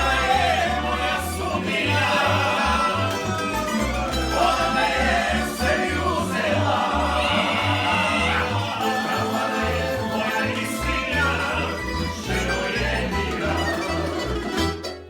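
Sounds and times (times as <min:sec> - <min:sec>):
voices singing: 0:00.0 - 0:14.8
plucked strings: 0:00.0 - 0:15.0
walking bass line: 0:00.0 - 0:15.0.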